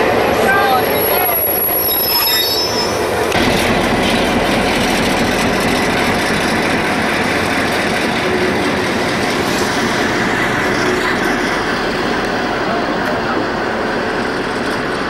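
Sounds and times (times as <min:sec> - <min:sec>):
diesel locomotive engine drone: 0:00.0 - 0:15.0
rail noise: 0:00.0 - 0:15.0.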